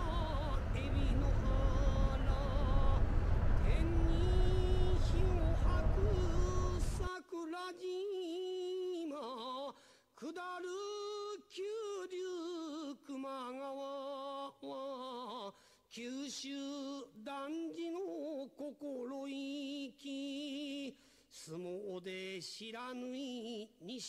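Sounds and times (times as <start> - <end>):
solo person singing: 0.0 - 24.0.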